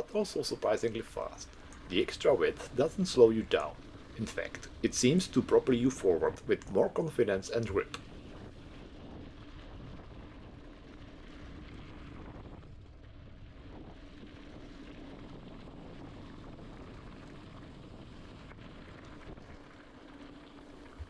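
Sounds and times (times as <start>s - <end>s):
bike tyres rolling over gravel: 0.0s - 21.0s
faint steady hum: 0.0s - 21.0s
wind noise on microphone: 0.0s - 21.0s.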